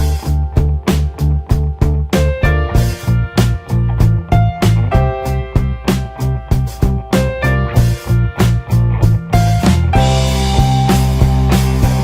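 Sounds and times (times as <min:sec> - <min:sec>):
guitar-led music with bass: 0:00.0 - 0:12.0.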